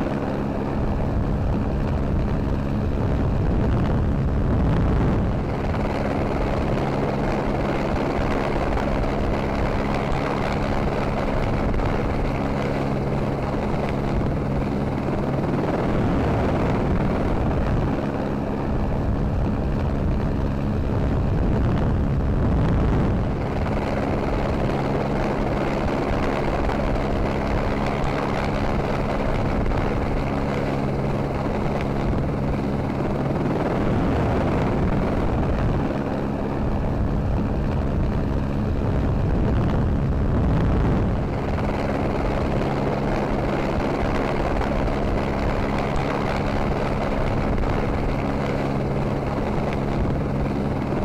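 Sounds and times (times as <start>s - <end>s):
helicopter rotor and engine drone: 0.0s - 51.0s.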